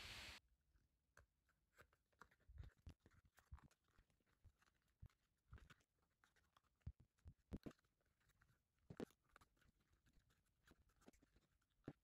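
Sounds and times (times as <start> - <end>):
needle and thread through leather: 0.4 - 12.0.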